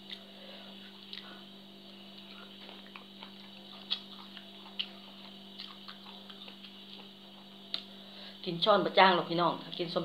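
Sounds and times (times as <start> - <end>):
person chewing food: 0.0 - 8.1
low electrical hum: 0.0 - 10.0.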